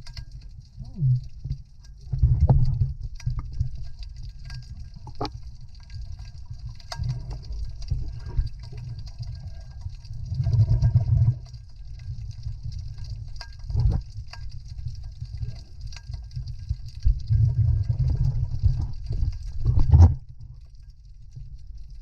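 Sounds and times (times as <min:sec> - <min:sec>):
water sloshing and rumbling: 0:00.0 - 0:22.0.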